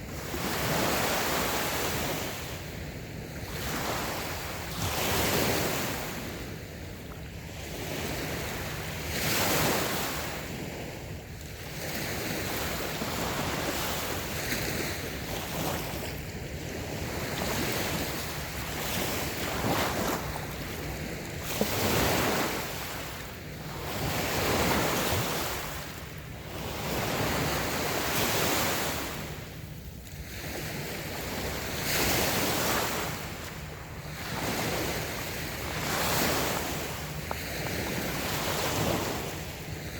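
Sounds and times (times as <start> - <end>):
waves washing onto beach: 0.0 - 39.9.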